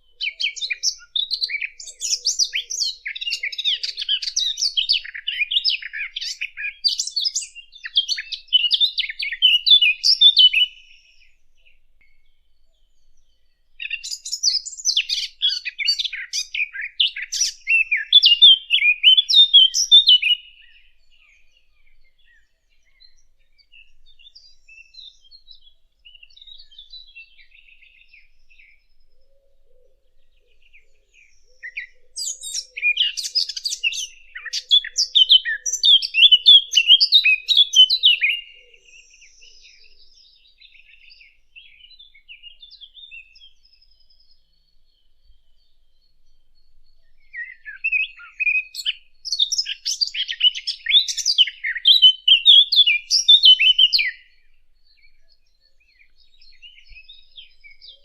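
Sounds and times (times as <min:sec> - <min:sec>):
faint bird twittering: 0:00.0 - 0:58.0
warbler singing: 0:00.0 - 0:58.0.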